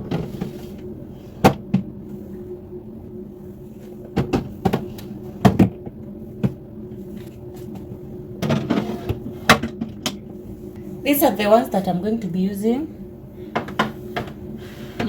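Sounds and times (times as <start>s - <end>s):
refrigerator hum: 0.0s - 15.0s.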